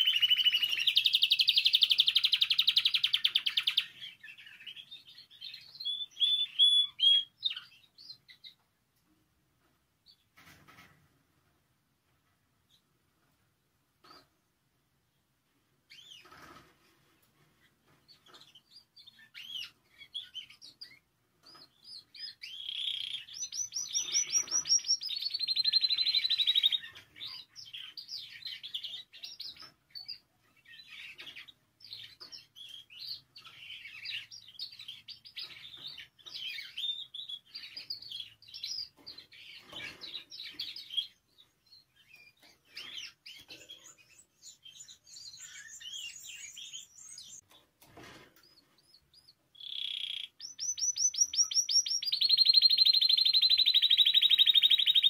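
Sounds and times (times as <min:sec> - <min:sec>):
canary singing trills: 0:00.0 - 0:08.6, 0:18.0 - 0:47.5, 0:48.4 - 0:55.0.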